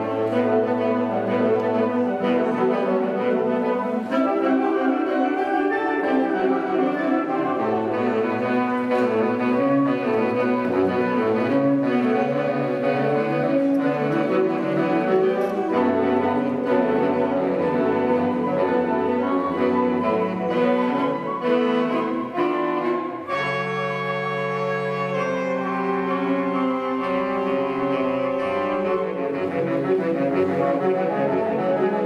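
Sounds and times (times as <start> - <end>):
flutes and saxophones playing: 0.0 - 32.0.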